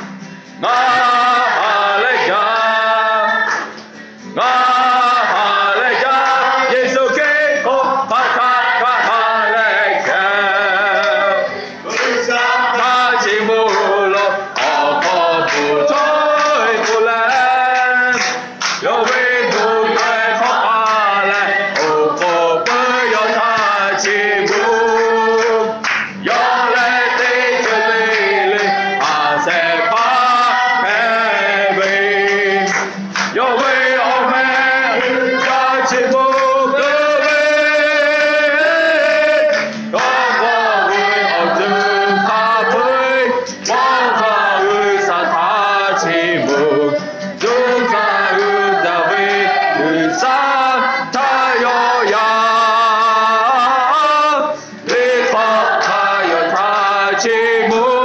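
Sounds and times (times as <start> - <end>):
congregation singing a hymn: 0.0 - 58.0
hands clapping: 3.4 - 4.1, 10.0 - 45.2, 46.4 - 58.0.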